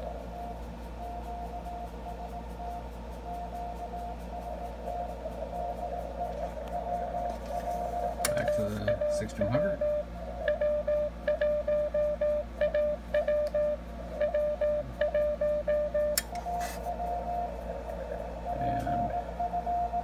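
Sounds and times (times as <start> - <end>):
morse code beeping tone: 0.0 - 20.0.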